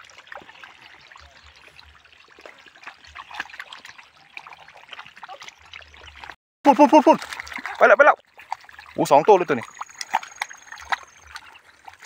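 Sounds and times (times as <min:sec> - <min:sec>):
shallow water trickling: 0:00.0 - 0:12.0
small splashes and drips: 0:00.0 - 0:12.0.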